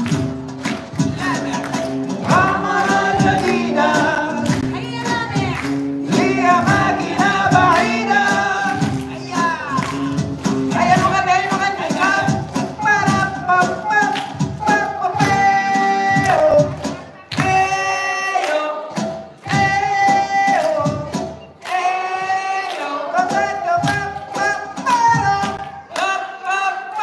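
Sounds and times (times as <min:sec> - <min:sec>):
drum beat and instruments: 0:00.0 - 0:26.1.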